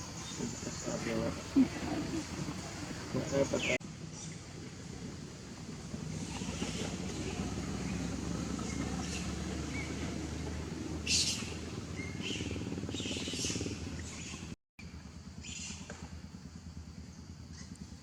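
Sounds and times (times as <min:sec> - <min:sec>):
small engine humming: 0:00.0 - 0:18.0.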